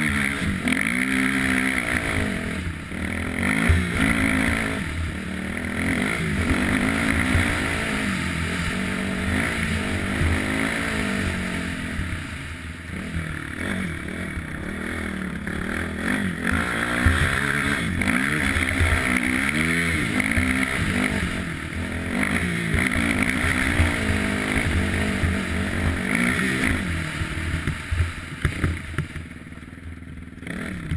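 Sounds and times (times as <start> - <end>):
quad bike engine revving: 0.0 - 30.9.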